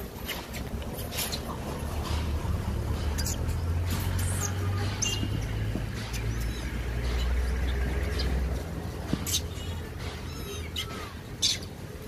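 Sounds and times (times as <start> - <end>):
monkeys squeaking and squealing: 0.0 - 12.0.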